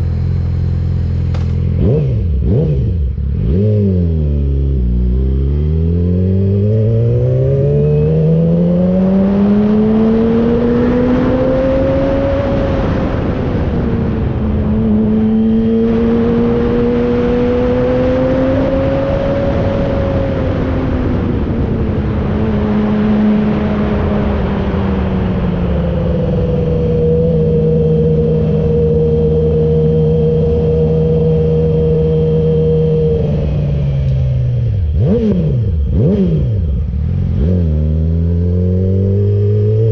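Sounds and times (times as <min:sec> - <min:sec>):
motorcycle engine under way: 0:00.0 - 0:39.9
wind noise: 0:06.2 - 0:39.9.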